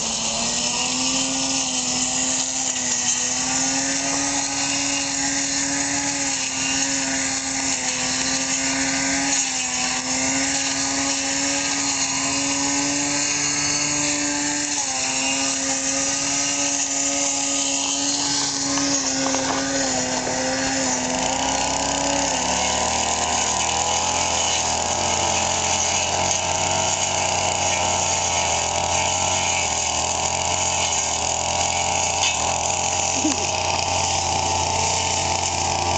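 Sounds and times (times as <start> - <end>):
brush cutter engine: 0.0 - 35.9.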